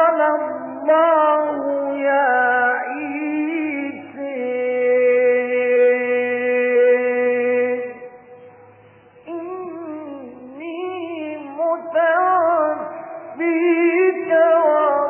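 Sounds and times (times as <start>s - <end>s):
man chanting: 0.0s - 8.4s, 9.3s - 15.0s.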